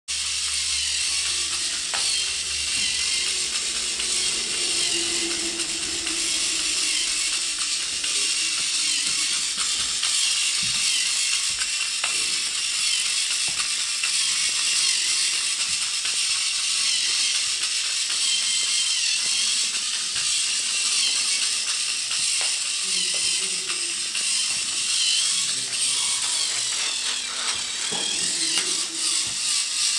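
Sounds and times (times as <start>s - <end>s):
toy motor whirring through gears: 0.1s - 29.9s.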